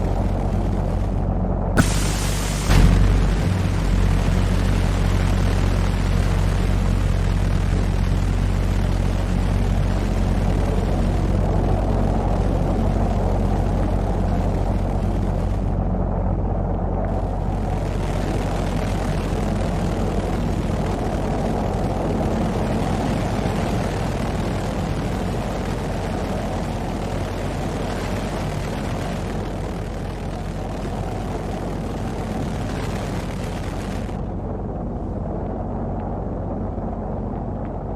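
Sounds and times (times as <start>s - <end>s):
rocket engine roar: 0.0s - 37.9s.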